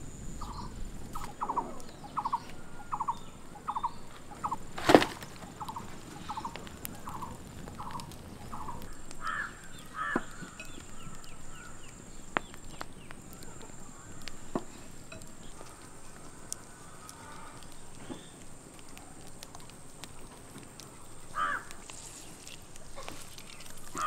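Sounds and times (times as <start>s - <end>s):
bird calling: 0.0s - 24.0s
sharp clicks: 1.1s - 24.0s.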